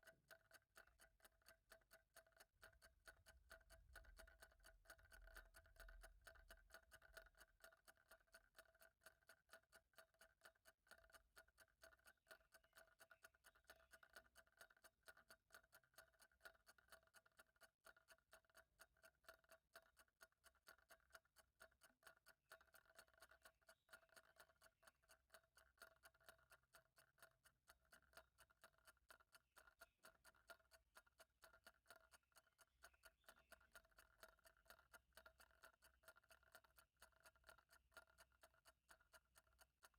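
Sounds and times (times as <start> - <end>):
faint clock ticking: 0.0 - 39.9.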